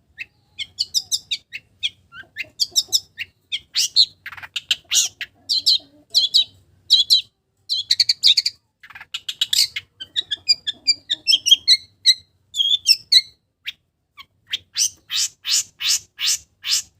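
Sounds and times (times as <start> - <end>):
bird chirps and trills: 0.1 - 16.9.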